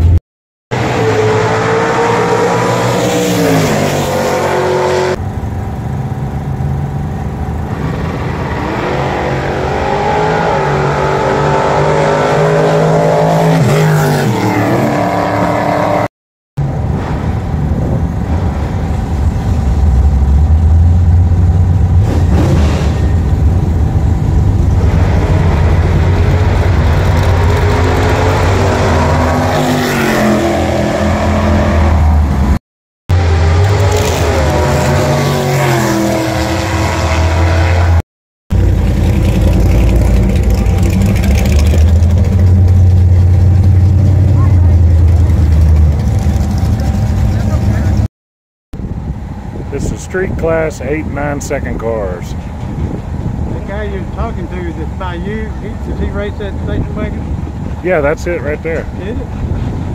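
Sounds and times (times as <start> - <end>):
drag-racing car engine: 0.0 - 48.1, 48.8 - 59.9.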